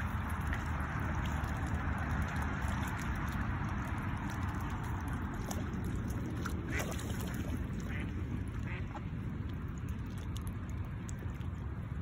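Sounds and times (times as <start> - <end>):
ducks dabbling in water: 0.0 - 12.0.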